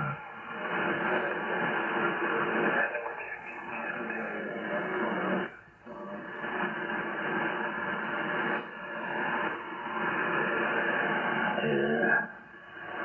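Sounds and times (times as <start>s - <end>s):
noisy shortwave radio signal: 0.0s - 13.0s.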